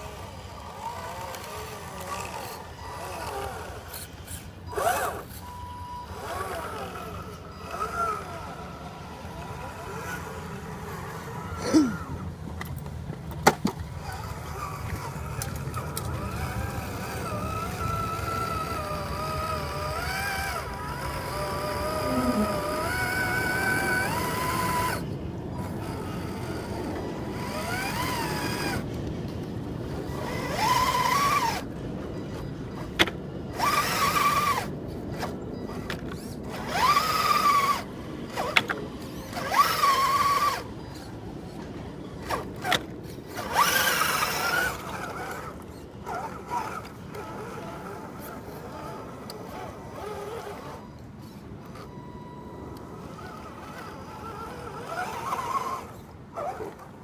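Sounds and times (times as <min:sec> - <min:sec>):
electric motor whining: 0:00.0 - 0:12.3, 0:14.0 - 0:41.1, 0:42.0 - 0:56.9.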